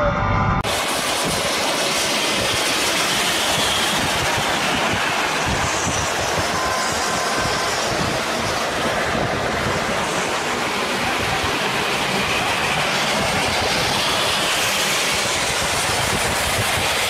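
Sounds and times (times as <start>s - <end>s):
wind and road rush in car: 0.5s - 17.0s.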